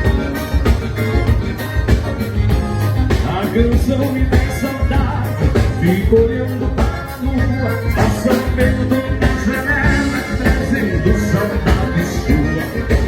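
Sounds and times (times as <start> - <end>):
dance band playing live: 0.0 - 13.0
steady drum beat: 0.0 - 13.0.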